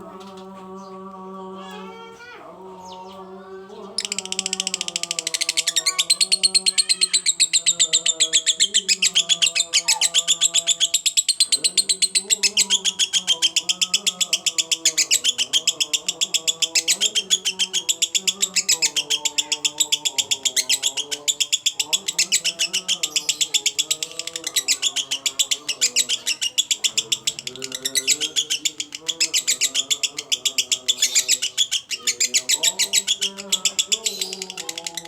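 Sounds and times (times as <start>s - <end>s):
lovebird high chirps: 4.0s - 35.0s.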